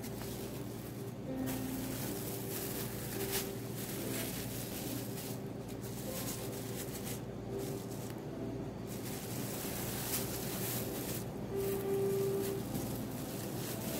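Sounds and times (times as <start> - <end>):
plastic film crinkling: 0.0 - 13.9
steady low hum: 0.0 - 13.9.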